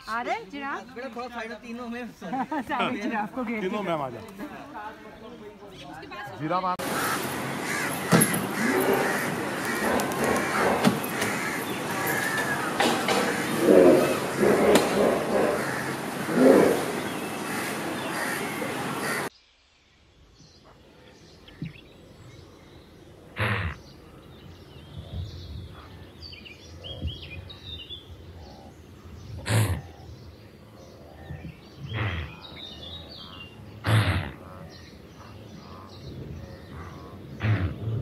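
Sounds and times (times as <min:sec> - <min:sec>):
small birds chirping faintly: 0:00.0 - 0:38.0.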